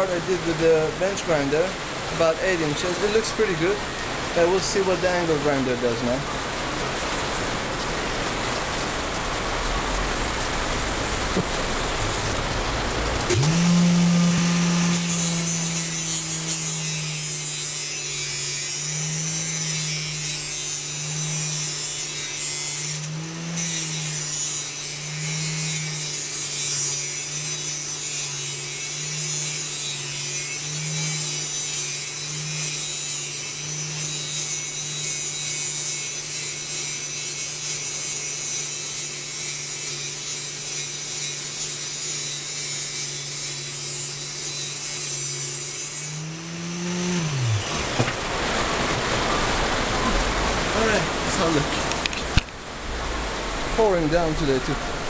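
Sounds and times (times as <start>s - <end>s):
grinding wheel hissing on metal: 0.0s - 6.3s, 11.4s - 52.2s
angle grinder motor hum: 0.0s - 7.2s, 11.2s - 55.0s.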